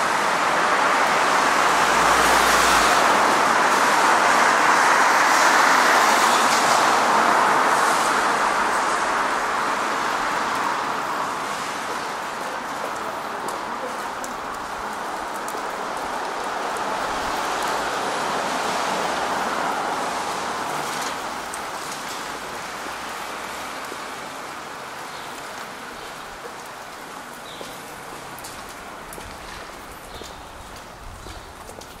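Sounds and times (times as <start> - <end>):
tyres hissing on wet street: 0.0 - 32.0.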